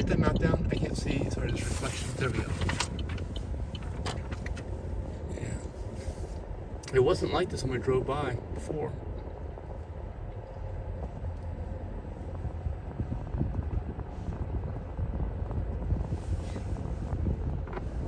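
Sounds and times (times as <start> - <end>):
car cabin road rumble: 0.0 - 18.0.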